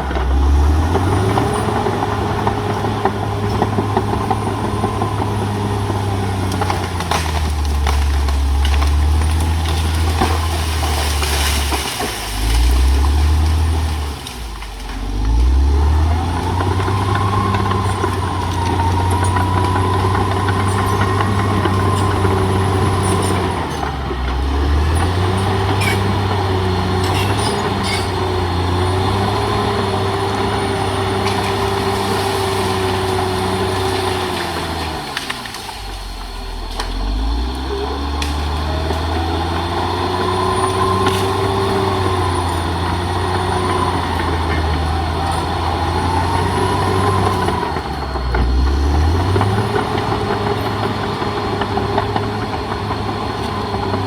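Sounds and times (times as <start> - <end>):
bulldozer diesel engine under load: 0.0 - 54.0.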